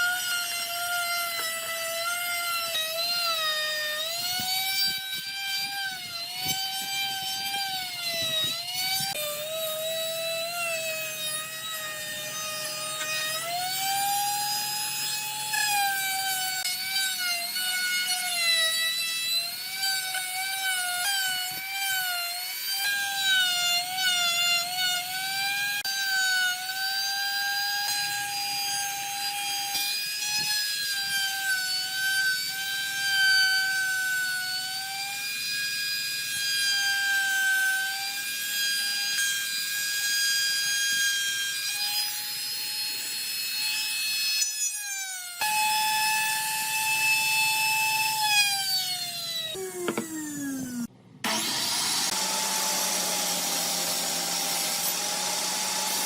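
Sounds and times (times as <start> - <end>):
power tool whining: 0.0 - 56.0.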